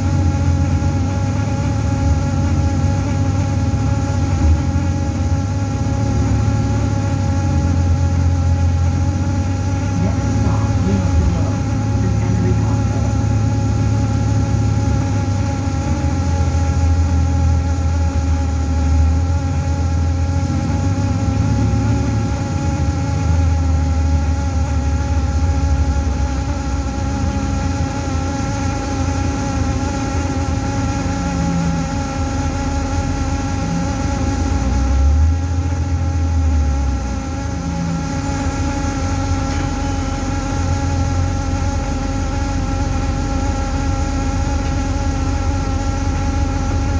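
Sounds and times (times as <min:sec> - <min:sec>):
bus engine rumble: 0:00.0 - 0:46.9
buzzing vibrating hum: 0:00.0 - 0:46.9.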